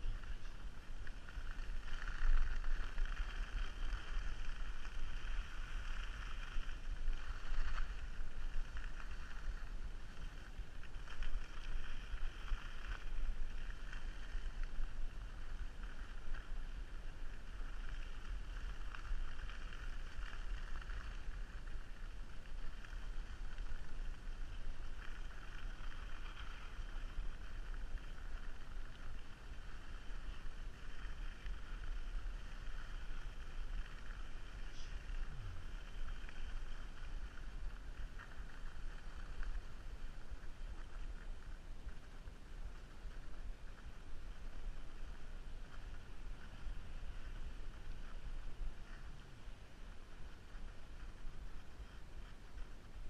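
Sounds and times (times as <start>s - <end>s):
skis hissing over snow: 0.0s - 53.0s
wind rumble on microphone: 0.0s - 53.0s.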